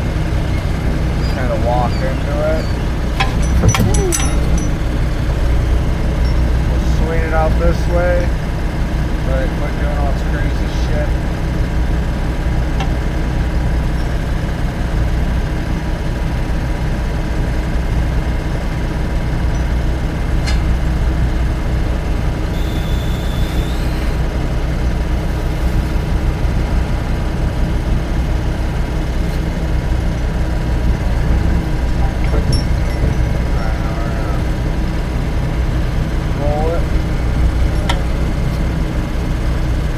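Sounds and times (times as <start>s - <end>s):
welder engine running: 0.0s - 39.9s.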